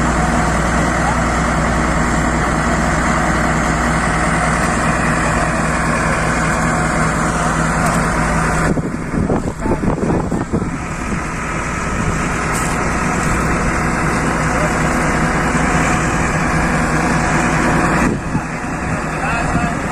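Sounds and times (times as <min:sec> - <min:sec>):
truck engine idling: 0:00.0 - 0:19.9.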